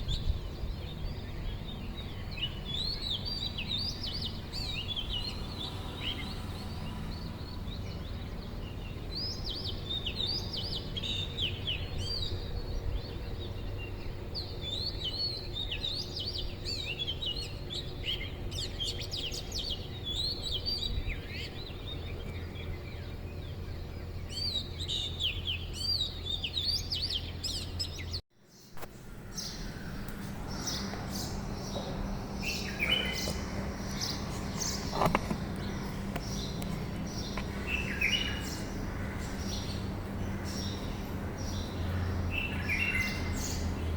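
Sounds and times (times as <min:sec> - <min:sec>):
birds chirping: 0:00.0 - 0:43.9
low background hum: 0:00.0 - 0:43.9.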